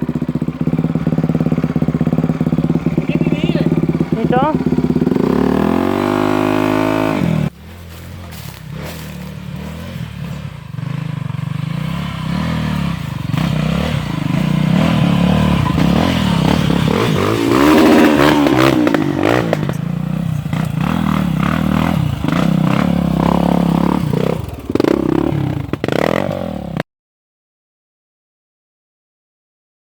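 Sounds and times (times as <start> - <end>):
dirt bike engines revving: 0.0 - 26.8.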